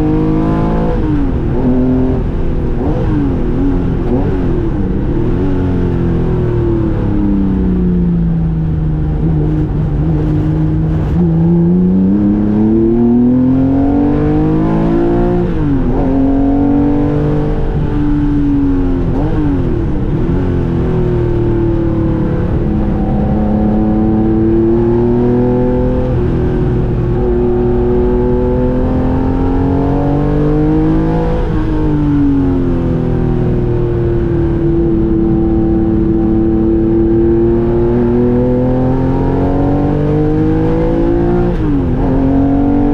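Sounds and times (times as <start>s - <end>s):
race car engine revving: 0.0s - 7.2s, 9.1s - 42.9s.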